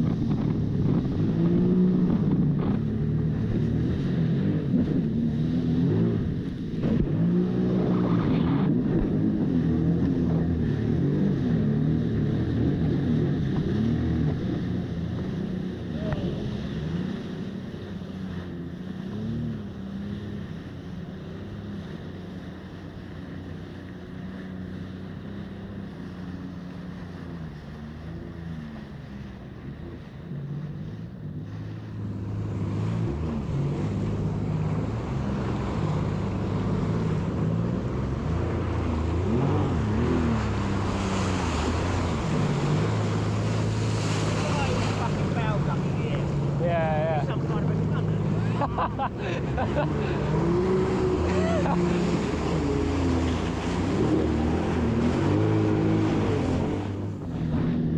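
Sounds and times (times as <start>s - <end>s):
jet ski engine running: 0.0s - 57.9s
wind and water rushing: 0.0s - 57.9s.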